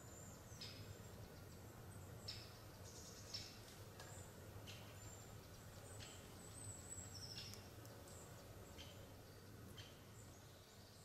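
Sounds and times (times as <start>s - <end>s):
high bird calls and chirps: 0.0s - 11.0s
low steady hum: 0.0s - 11.0s.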